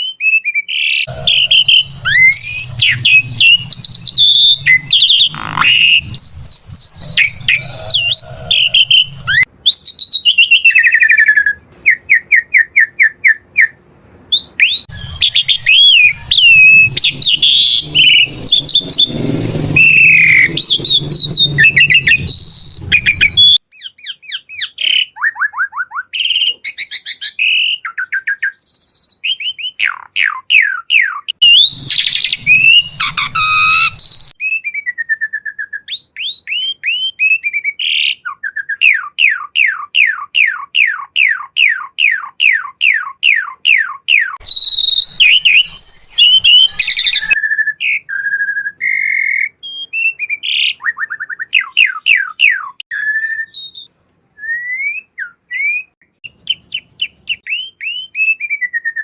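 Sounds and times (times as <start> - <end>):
starling singing: 0.6 - 25.4, 27.1 - 34.4, 35.8 - 53.9, 56.2 - 58.4.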